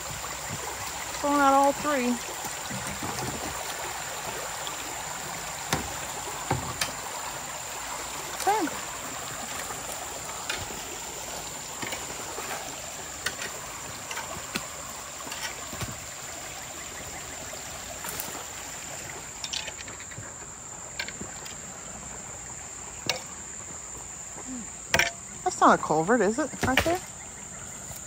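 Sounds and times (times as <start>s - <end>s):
flood water rushing: 0.0s - 27.0s
high insect trill: 0.0s - 28.0s.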